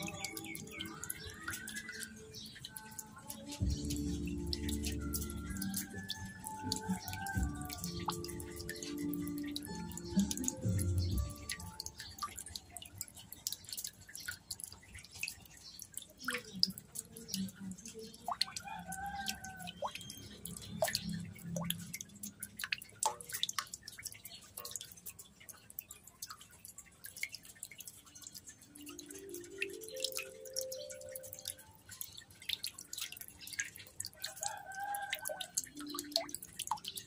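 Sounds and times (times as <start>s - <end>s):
water dripping and splashing: 0.0s - 37.0s.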